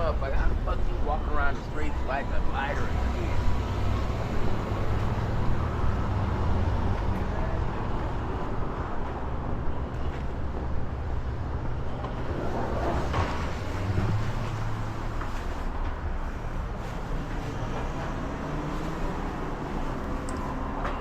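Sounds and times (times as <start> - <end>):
tyre road noise: 0.0 - 21.0.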